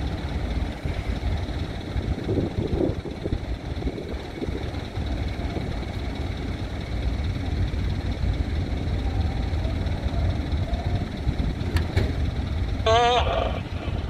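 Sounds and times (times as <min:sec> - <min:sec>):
ship diesel engines rumbling: 0:00.0 - 0:14.0.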